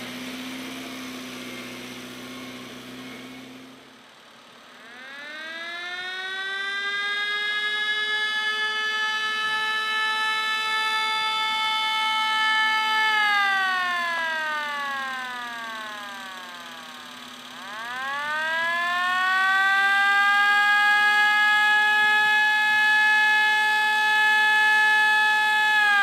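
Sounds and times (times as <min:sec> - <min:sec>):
fire truck siren wailing: 0:04.6 - 0:26.0.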